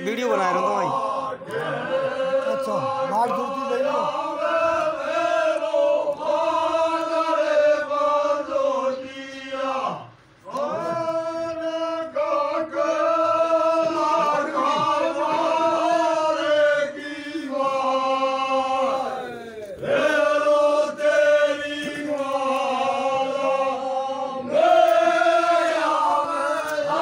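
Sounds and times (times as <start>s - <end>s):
men chanting together: 0.0s - 27.0s.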